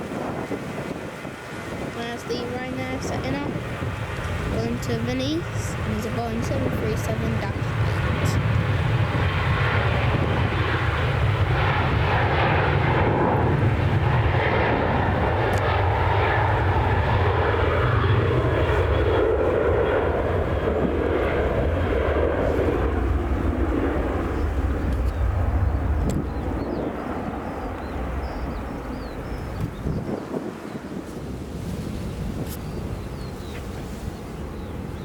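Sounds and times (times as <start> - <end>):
jet engines at high power: 0.0 - 35.0.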